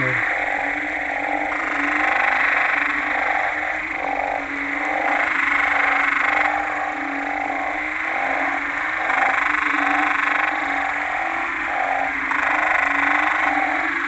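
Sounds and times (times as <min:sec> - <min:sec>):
frogs calling: 0:00.0 - 0:14.0.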